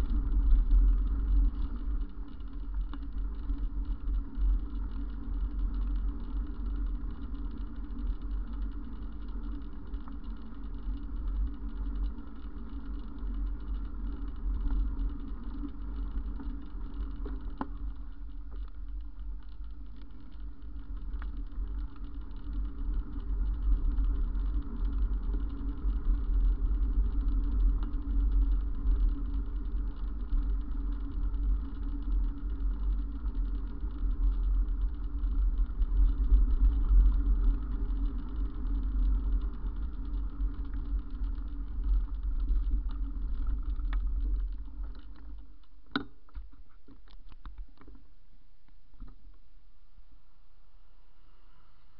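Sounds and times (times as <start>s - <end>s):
wind and road rumble: 0.0s - 48.0s.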